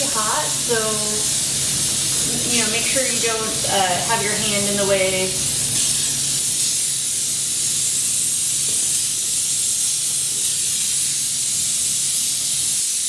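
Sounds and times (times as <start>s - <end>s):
steam cleaner hissing: 0.0s - 13.0s.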